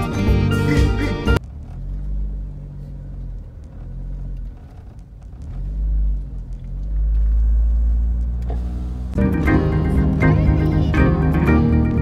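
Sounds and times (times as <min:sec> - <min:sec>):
car engine hum: 0:00.0 - 0:12.0
road rumble: 0:00.0 - 0:12.0.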